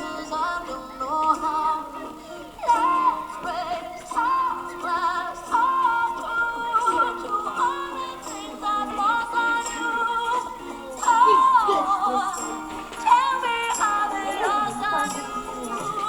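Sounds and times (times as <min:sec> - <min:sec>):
synthetic singing voice with music: 0:00.0 - 0:16.0.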